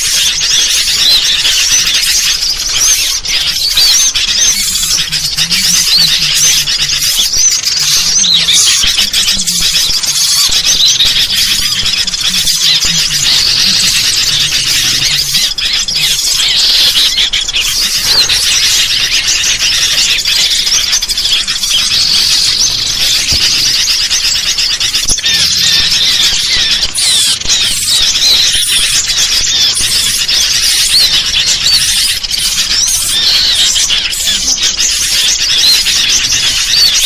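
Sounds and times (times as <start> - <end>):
small birds chirping and whistling: 0.0 - 37.0.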